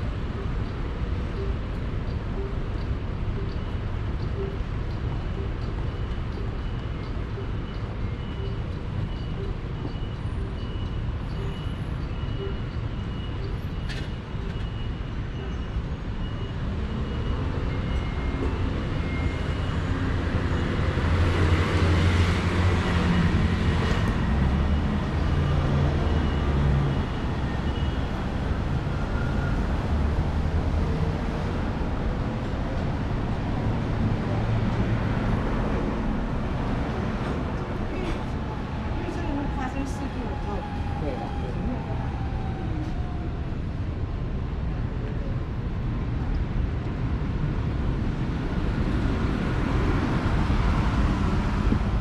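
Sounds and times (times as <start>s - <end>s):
traffic rumble: 0.0s - 52.0s.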